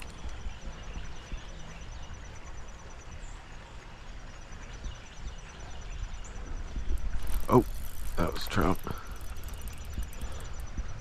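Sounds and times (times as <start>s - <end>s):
steady water rush: 0.0s - 11.0s
wind rumbling on microphone: 0.0s - 11.0s.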